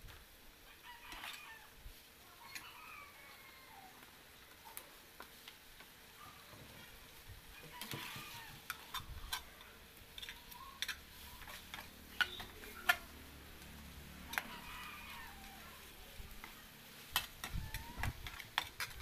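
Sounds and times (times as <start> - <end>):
faint sizzle: 0.0 - 19.0.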